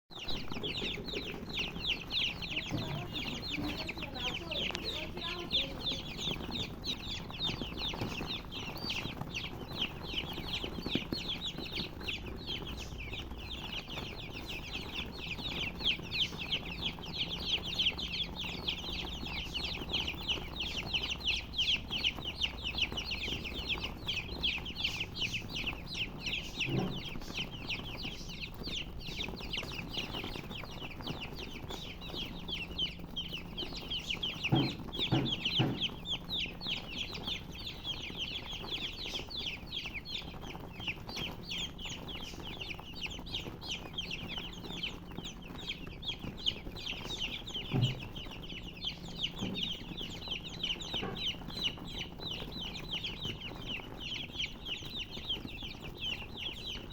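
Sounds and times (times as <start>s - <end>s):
baby chicks peeping: 0.1s - 56.9s.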